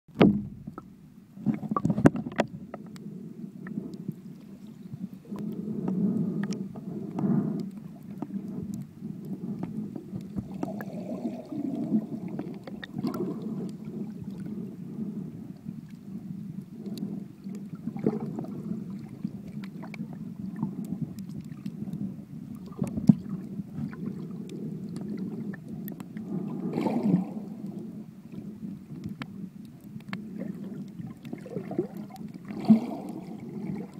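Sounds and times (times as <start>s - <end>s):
muffled underwater rumble: 0.1s - 33.9s.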